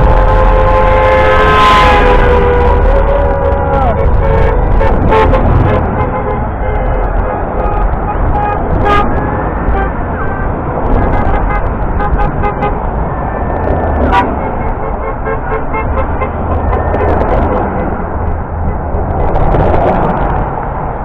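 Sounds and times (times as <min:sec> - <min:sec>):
car horns honking: 0:00.0 - 0:19.4
traffic rumble: 0:00.0 - 0:21.0.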